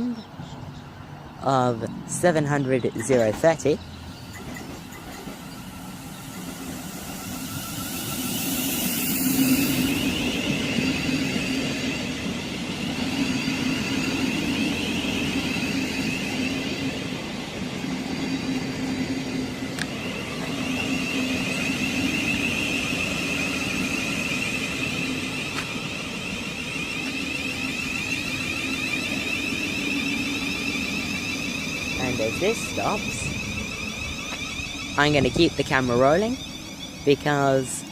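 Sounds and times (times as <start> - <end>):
electric train whine: 0.0 - 37.9
low running hum: 3.2 - 37.9.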